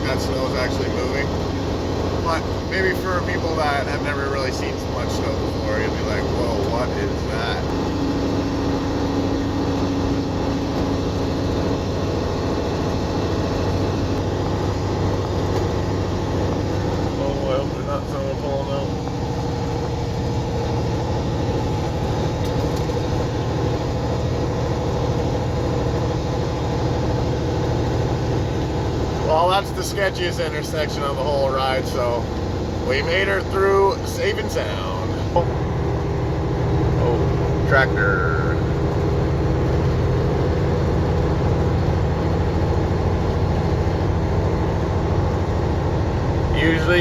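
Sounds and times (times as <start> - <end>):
truck diesel engine drone: 0.0 - 47.0.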